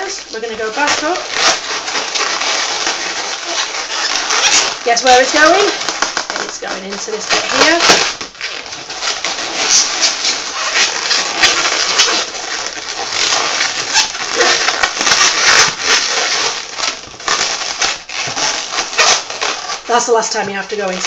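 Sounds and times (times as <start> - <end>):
rubber balloons squeaking: 0.0 - 21.0.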